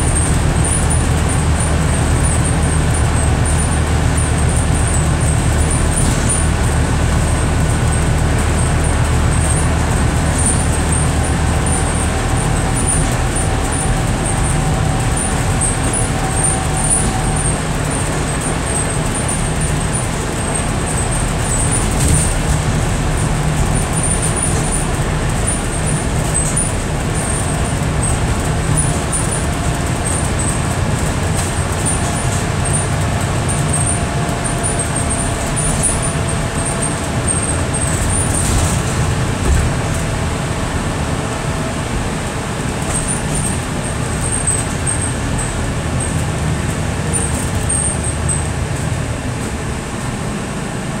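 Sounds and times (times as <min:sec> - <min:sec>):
bus engine and road drone: 0:00.0 - 0:51.0.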